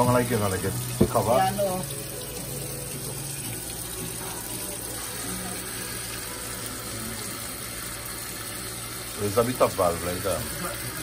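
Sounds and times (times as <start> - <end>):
tap water running onto metal lid: 0.0 - 11.0.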